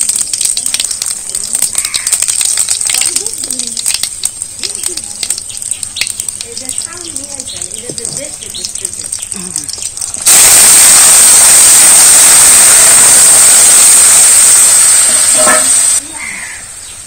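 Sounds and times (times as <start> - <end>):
liquid sizzling in hot oil: 0.0 - 17.0.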